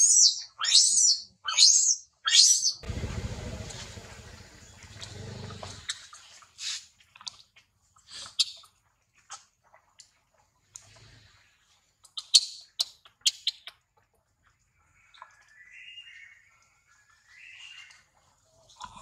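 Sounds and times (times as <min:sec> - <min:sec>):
monkeys eating grapes: 0:02.8 - 0:19.0.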